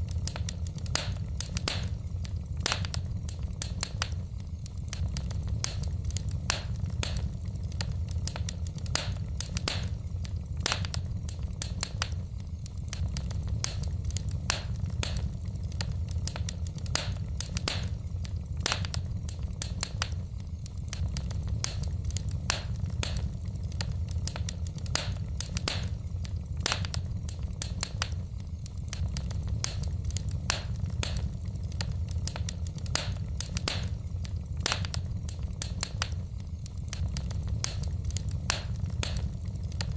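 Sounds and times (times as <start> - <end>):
logs popping and crackling: 0.0 - 39.9
low rumble of flames: 0.0 - 39.9.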